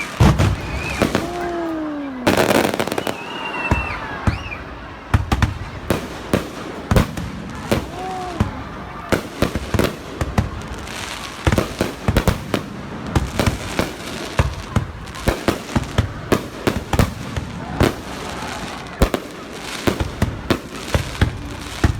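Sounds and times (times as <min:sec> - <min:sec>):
fireworks bangs and pops: 0:00.0 - 0:21.9.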